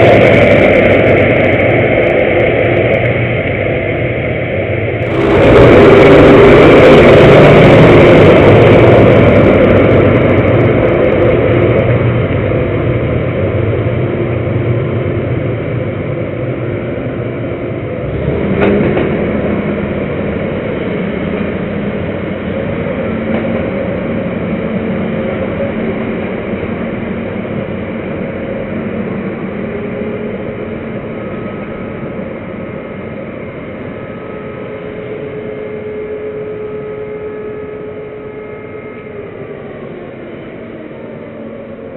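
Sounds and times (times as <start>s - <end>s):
combine harvester humming: 0.0s - 41.9s.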